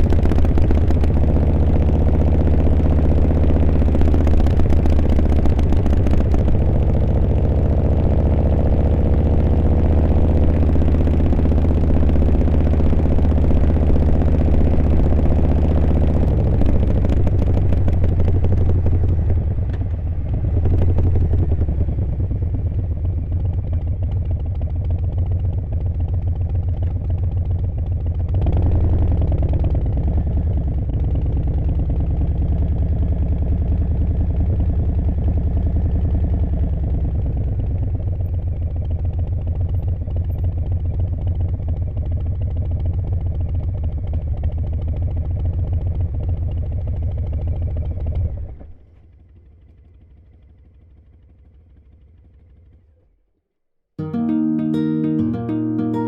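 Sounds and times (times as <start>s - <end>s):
motorcycle engine running: 0.0s - 53.2s.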